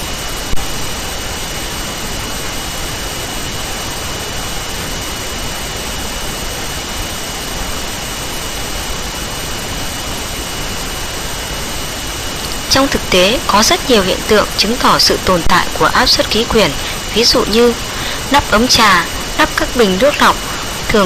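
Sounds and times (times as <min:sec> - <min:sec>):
background hiss: 0:00.0 - 0:21.0
faint high-pitched whine: 0:00.0 - 0:21.0.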